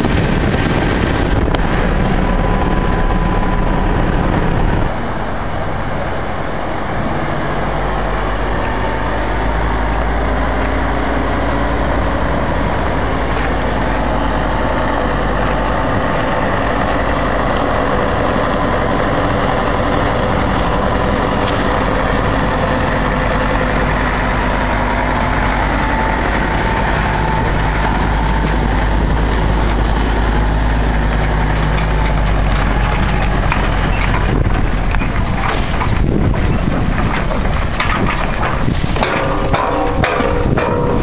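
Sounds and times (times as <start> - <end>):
truck diesel engine idling: 0.0 - 41.0.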